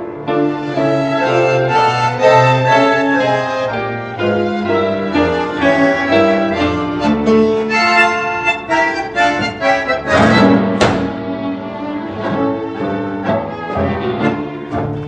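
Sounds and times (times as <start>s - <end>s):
accordion-like background music: 0.0s - 15.0s.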